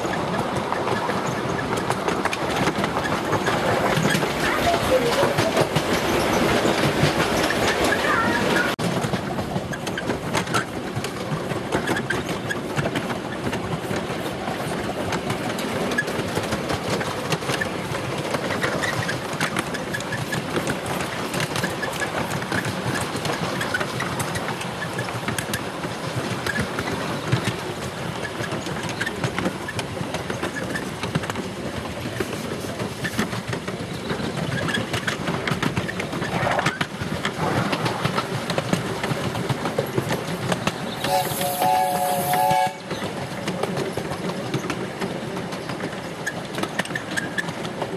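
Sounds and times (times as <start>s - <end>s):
train carriages rumbling on track: 0.0s - 47.9s
wheels clicking over rail joints: 0.0s - 47.9s.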